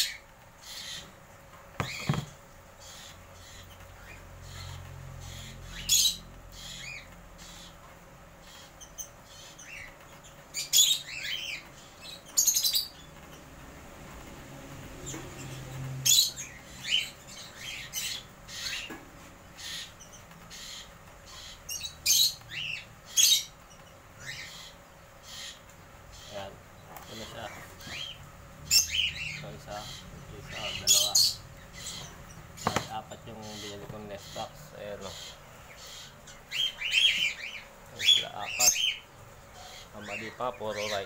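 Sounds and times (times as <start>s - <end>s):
birds chirping and squawking: 0.0s - 41.0s.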